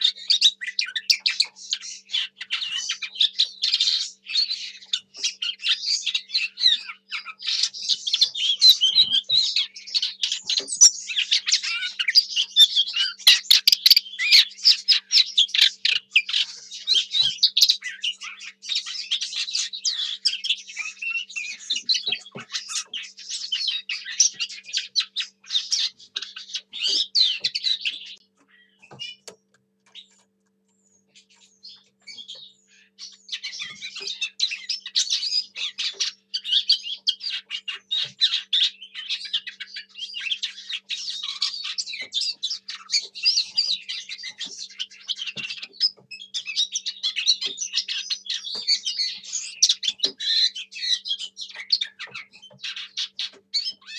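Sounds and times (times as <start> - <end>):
bird warbling song: 0.0 - 53.9.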